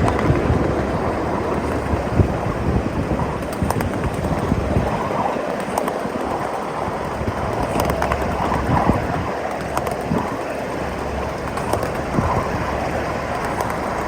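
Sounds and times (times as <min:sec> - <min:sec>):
train wheels rumbling on track: 0:00.0 - 0:14.0
wheels clicking over rail joints: 0:00.0 - 0:14.0.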